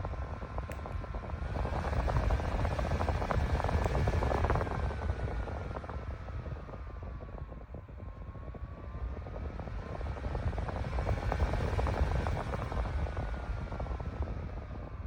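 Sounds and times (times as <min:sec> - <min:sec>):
fan motor whine: 0:00.0 - 0:15.0
rush of moving air: 0:00.0 - 0:15.0.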